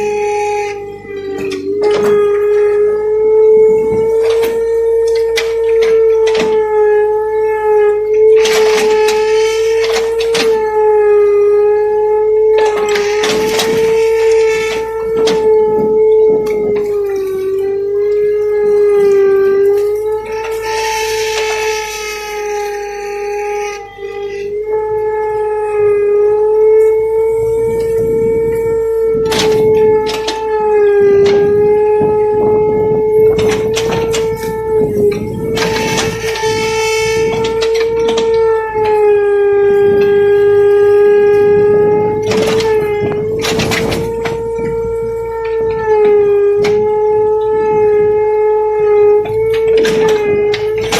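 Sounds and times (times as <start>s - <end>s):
excavator engine whining: 0.0s - 50.9s
knocks and scraping: 0.0s - 50.9s.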